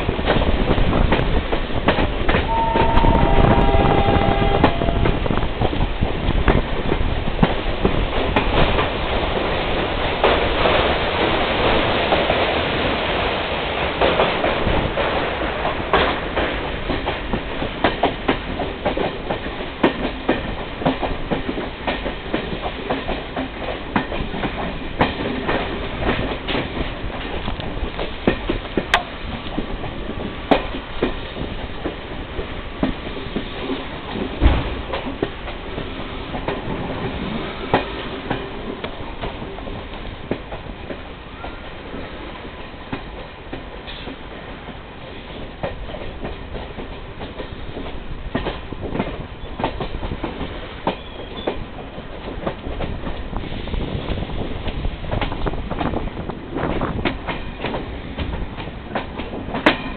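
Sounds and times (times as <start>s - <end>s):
train wheels clacking over rails: 0.0s - 59.9s.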